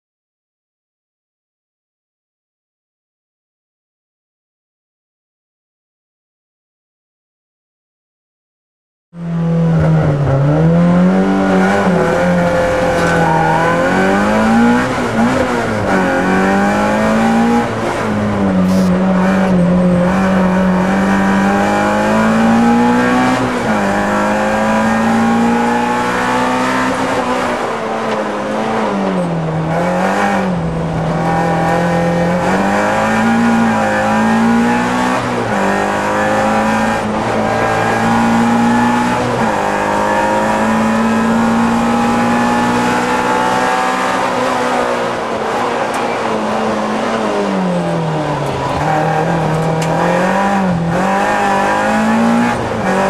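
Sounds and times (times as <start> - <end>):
rally car engine revving: 9.2 - 53.0.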